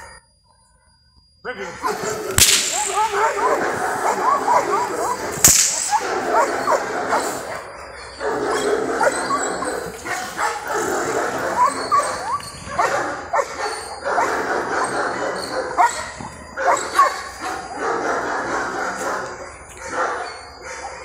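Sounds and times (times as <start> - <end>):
dog barking: 1.8 - 21.0.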